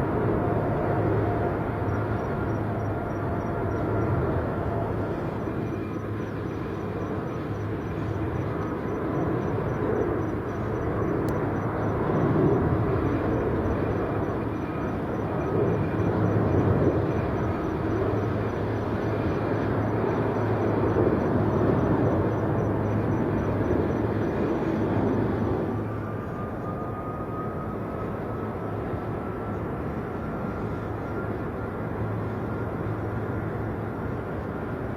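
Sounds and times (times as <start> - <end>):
jet engines rumbling: 0.0 - 34.9.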